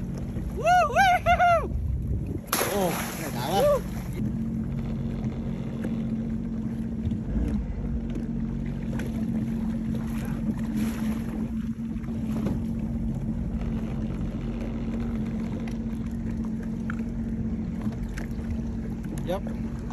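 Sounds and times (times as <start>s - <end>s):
jet ski engine idling: 0.0s - 19.9s.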